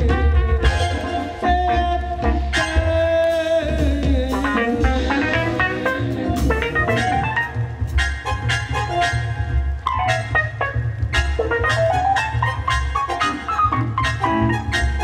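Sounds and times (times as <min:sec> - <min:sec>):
double bass: 0:00.0 - 0:15.0
jazz band playing: 0:00.0 - 0:15.0.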